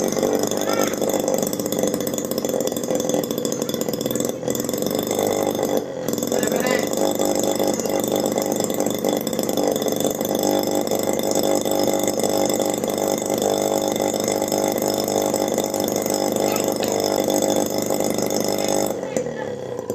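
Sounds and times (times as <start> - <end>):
miniature two-stroke engine running: 0.0 - 19.9.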